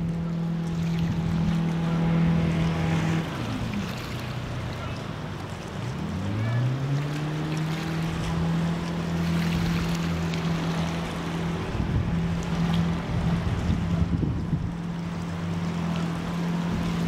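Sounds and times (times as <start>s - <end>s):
boat engine revving: 0.0s - 17.0s
river water rushing: 0.0s - 17.0s
wind: 0.0s - 17.0s.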